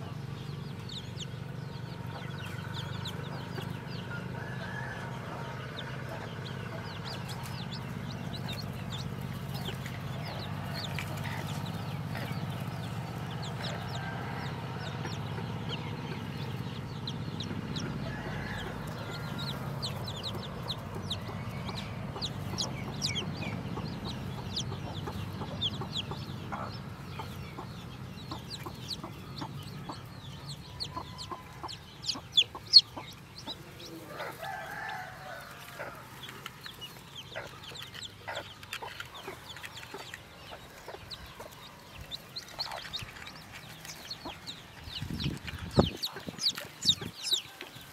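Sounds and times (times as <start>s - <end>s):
chicks peeping: 0.0s - 47.9s
hen clucking: 0.0s - 47.9s.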